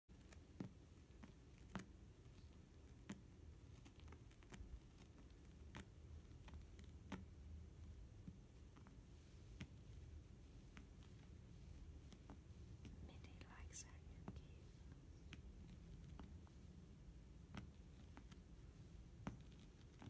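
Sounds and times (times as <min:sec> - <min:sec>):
cat claws scratching fabric: 0:00.1 - 0:13.0, 0:14.6 - 0:20.0
low room hum: 0:00.1 - 0:20.0.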